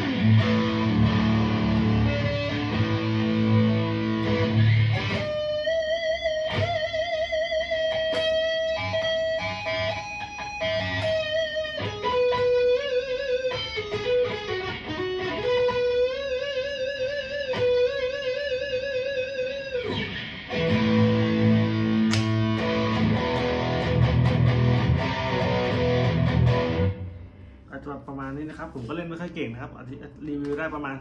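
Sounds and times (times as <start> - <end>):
fast-strummed electric guitar chords: 0.0 - 27.0
electric guitar lead notes: 0.0 - 27.6.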